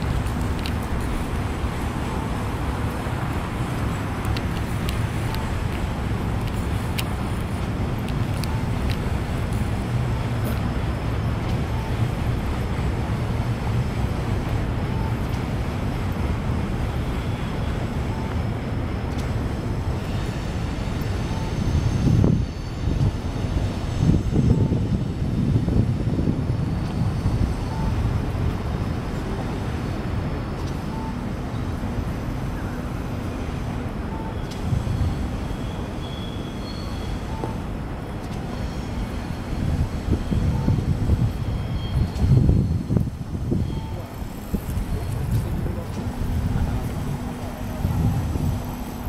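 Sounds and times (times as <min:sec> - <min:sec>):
city road traffic rumble: 0:00.0 - 0:49.0.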